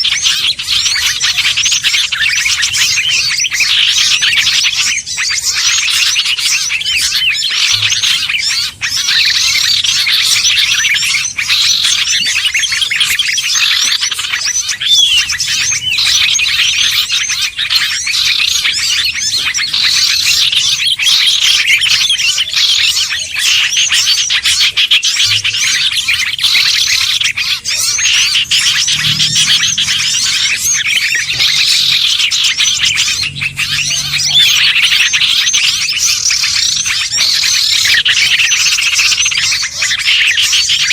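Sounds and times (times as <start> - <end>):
songbirds chirping and twittering: 0.0 - 40.9.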